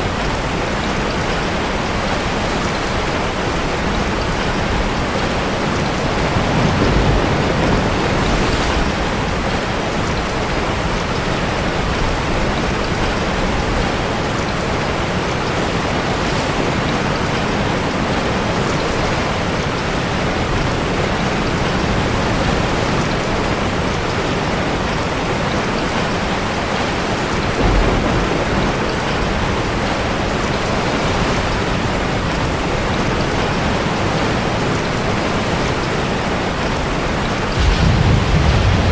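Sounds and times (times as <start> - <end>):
heavy rain: 0.0 - 38.9
ocean waves surging in a cave: 0.0 - 38.9.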